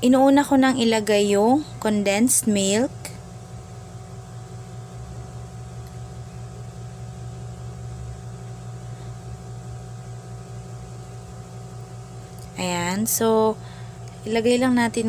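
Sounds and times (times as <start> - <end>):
low appliance hum: 0.0 - 15.0.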